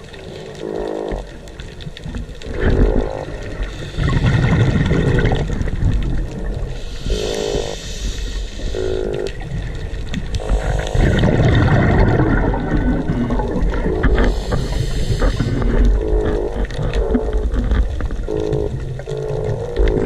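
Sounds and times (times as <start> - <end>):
underwater rumble and bubbles: 0.0 - 20.0.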